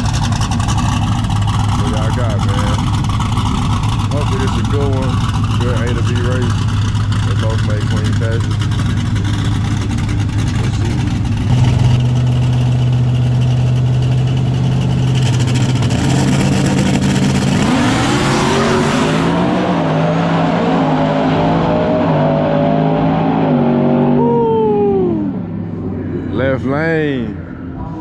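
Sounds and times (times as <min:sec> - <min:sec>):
truck engines accelerating: 0:00.0 - 0:28.0.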